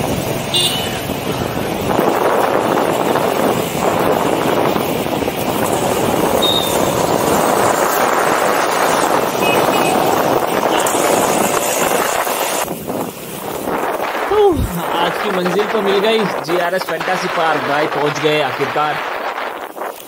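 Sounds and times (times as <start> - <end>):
skate wheels rolling on road: 0.0 - 20.0.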